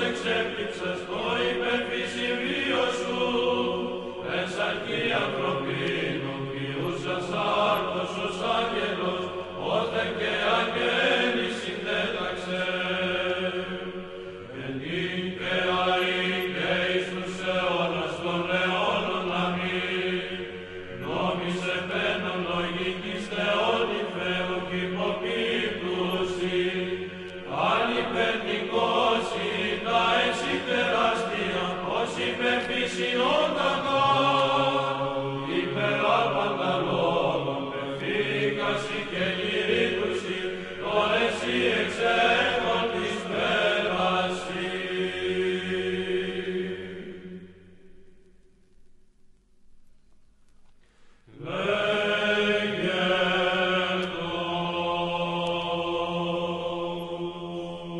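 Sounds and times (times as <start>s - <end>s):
choir chanting: 0.0s - 48.2s, 51.3s - 57.9s.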